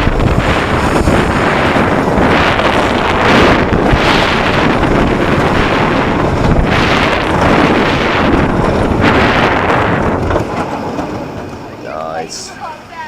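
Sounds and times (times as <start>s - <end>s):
wind rushing over microphone: 0.0s - 11.8s
roller coaster train rumbling: 0.0s - 13.0s.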